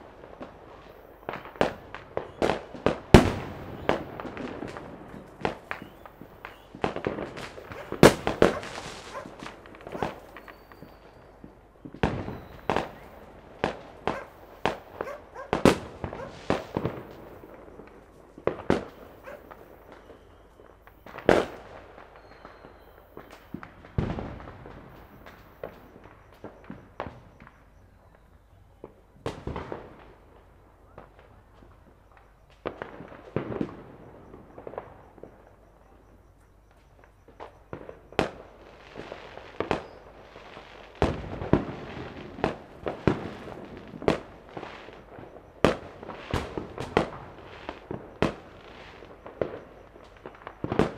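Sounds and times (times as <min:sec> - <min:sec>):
fireworks and firecrackers banging: 0:00.0 - 0:50.9.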